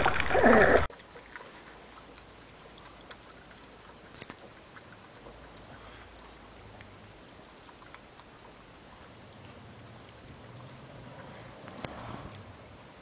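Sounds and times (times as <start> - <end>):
puppies eating and lapping: 0.0 - 13.0.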